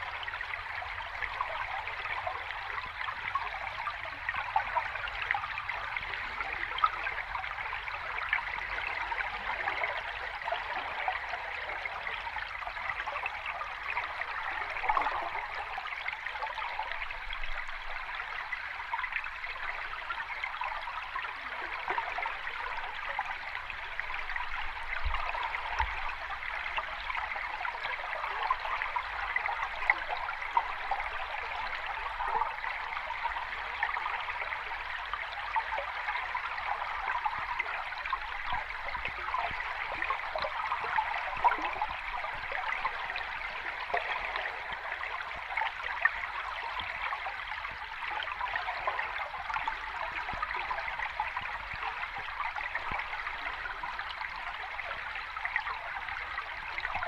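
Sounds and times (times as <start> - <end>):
stream water babbling: 0.0 - 57.0.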